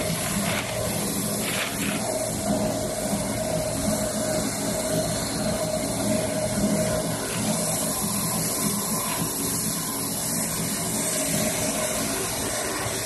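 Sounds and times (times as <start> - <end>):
machine humming: 0.0 - 13.0
paper rolls winding hiss: 0.0 - 13.0.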